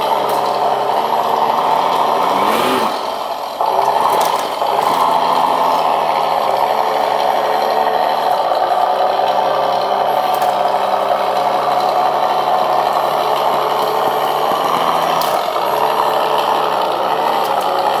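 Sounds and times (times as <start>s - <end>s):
low engine hum from speaker: 0.0s - 18.0s
toy car gears whirring: 0.0s - 18.0s.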